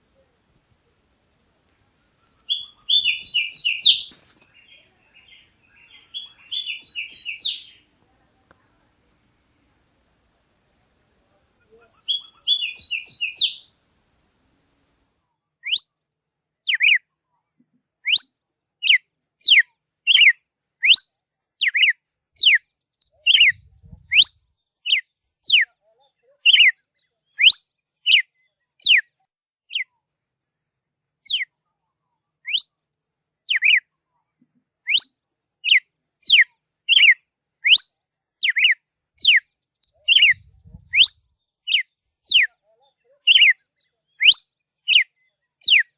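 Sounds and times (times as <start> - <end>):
songbird singing: 0.0 - 8.9, 10.5 - 13.8, 14.8 - 17.1, 18.0 - 45.9.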